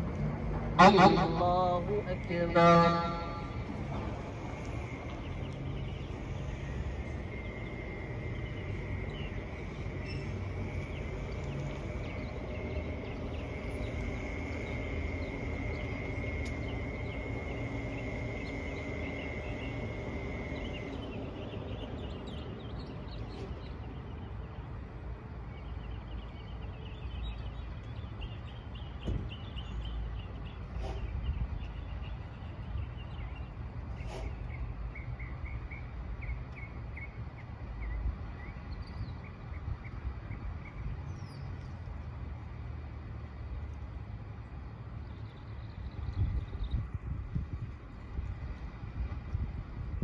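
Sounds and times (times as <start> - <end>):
low constant rumble: 0.0 - 50.0.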